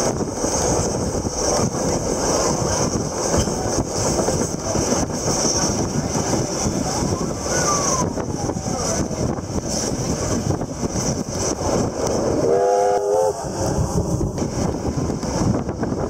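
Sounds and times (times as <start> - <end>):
rushing hiss of air: 0.0 - 16.0
train wheels rumbling on rails: 0.0 - 16.0.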